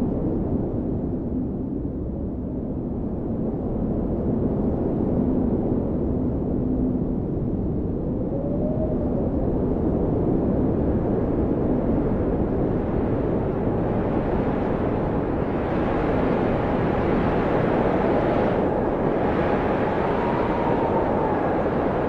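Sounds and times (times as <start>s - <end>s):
blizzard wind howling: 0.0s - 22.0s.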